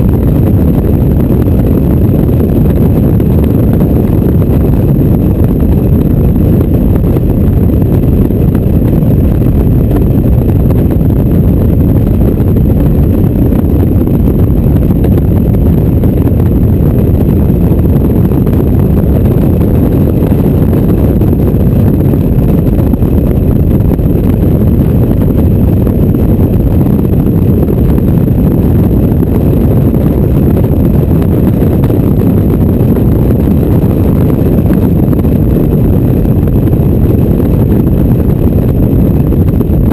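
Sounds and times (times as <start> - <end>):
wind buffeting: 0.0 - 39.9.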